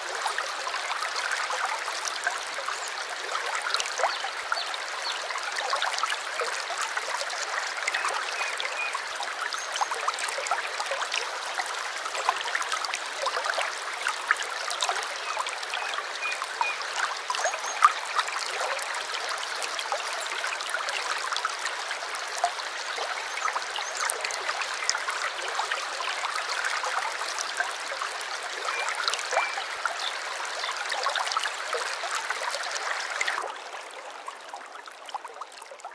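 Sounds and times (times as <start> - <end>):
stream water babbling: 0.0 - 35.9.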